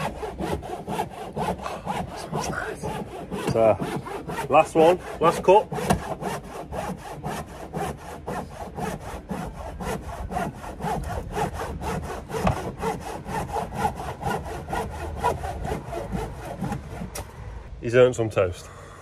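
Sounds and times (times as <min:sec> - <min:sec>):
hand saw cutting wood: 0:00.0 - 0:17.3.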